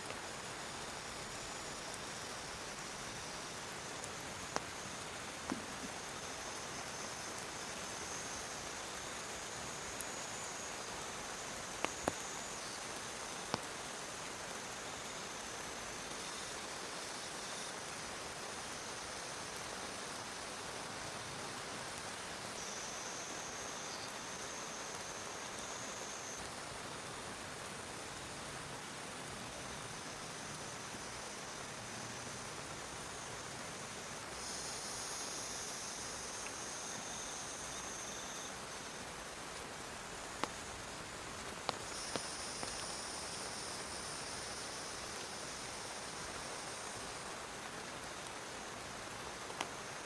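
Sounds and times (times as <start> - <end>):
heavy rain hissing: 0.1 - 50.0.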